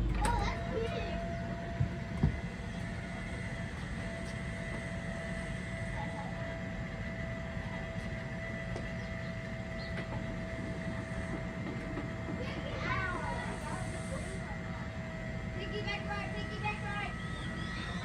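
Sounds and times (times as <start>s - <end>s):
machine hum with steady whine: 0.0s - 18.0s.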